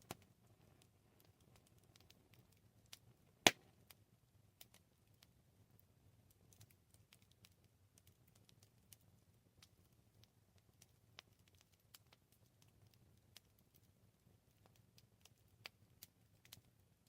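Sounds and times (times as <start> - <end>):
campfire crackling: 0.0 - 17.0
low rumble of burning fire: 0.0 - 17.0.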